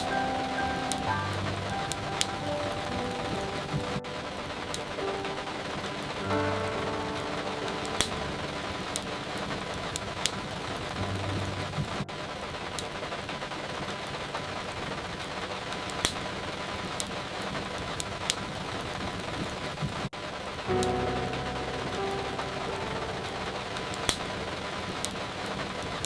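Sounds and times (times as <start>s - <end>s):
fire crackling and popping: 0.0s - 26.0s
steady rain: 0.0s - 26.0s.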